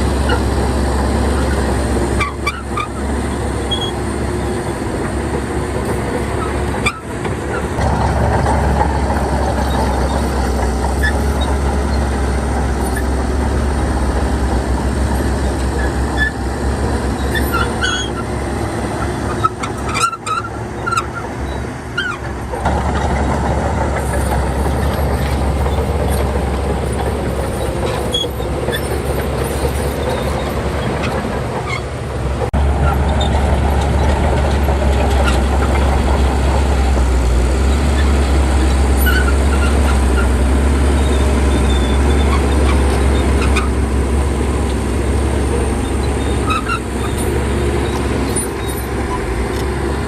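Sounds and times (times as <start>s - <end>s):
heavy diesel machinery rumbling: 0.0s - 50.0s.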